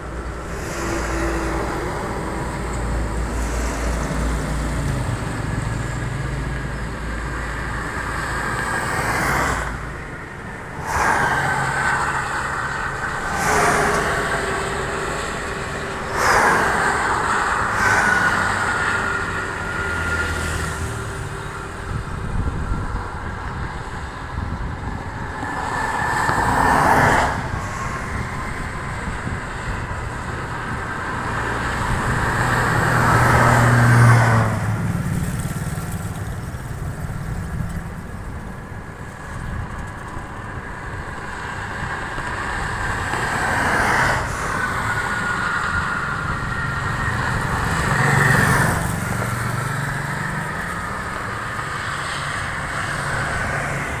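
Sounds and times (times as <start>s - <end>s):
vehicles passing on highway: 0.0s - 54.0s.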